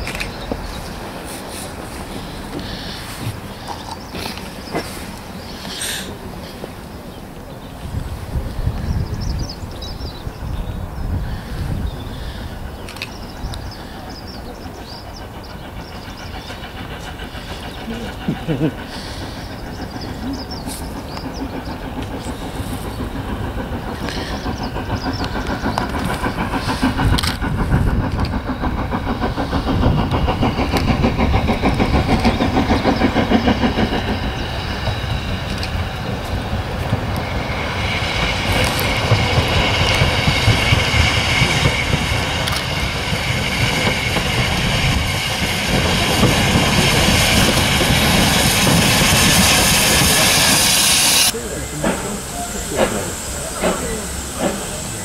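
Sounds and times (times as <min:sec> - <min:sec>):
steam hissing: 0:00.0 - 0:55.0
steam locomotive exhaust beats: 0:00.0 - 0:55.0.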